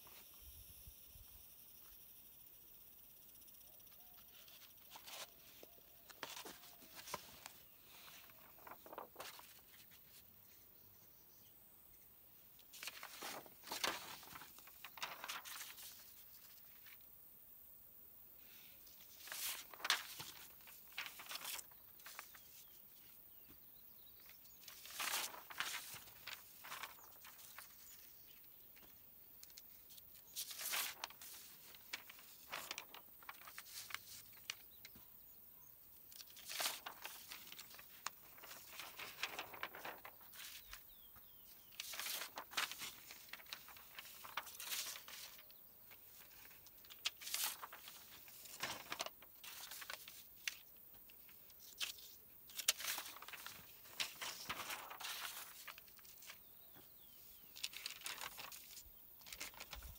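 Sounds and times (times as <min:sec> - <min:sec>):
paper rustling and crinkling: 0:03.9 - 0:10.7, 0:12.5 - 0:17.1, 0:18.8 - 0:23.6, 0:24.2 - 0:35.1, 0:36.0 - 0:59.9.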